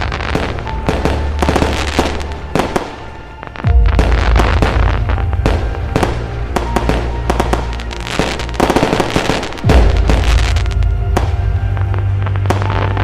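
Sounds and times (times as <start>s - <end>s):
cinematic action music: 0.0s - 13.0s
fireworks bangs and crackling: 0.0s - 13.0s.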